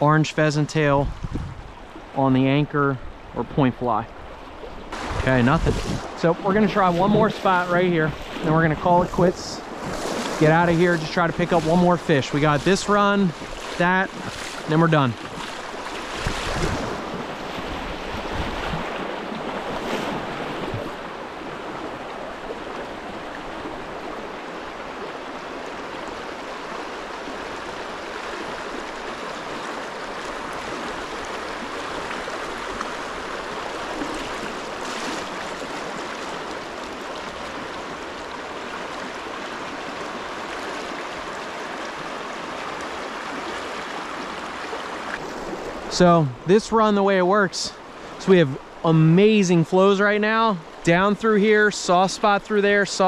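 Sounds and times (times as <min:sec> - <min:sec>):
water rushing over rocks: 0:03.2 - 0:53.0.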